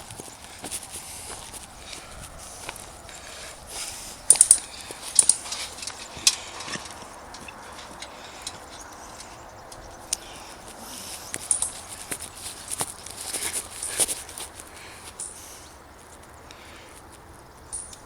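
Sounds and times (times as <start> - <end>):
footsteps on dry forest floor: 0.0 - 16.3
twigs snapping: 0.0 - 18.0.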